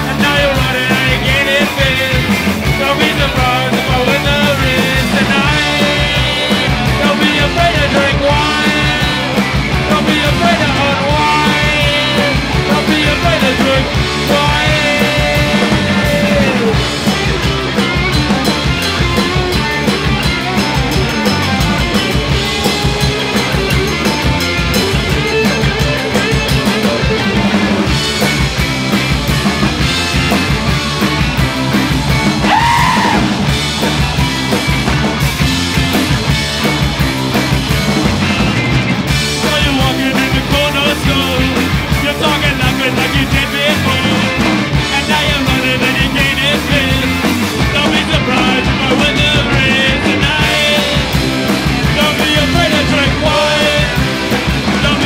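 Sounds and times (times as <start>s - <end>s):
bass guitar: 0.0s - 55.0s
drum kit with cymbals: 0.0s - 55.0s
electric guitar: 0.0s - 55.0s.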